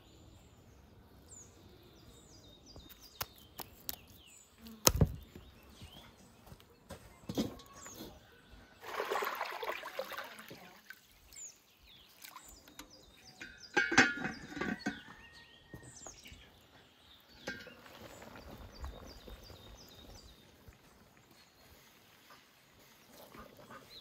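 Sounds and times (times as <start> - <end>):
birds chirping: 0.0 - 8.8, 10.7 - 24.0.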